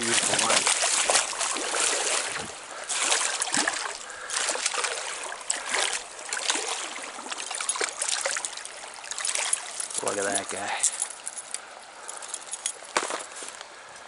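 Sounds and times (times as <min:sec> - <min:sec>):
water splashing: 0:00.0 - 0:11.6
stream water running: 0:00.0 - 0:14.0.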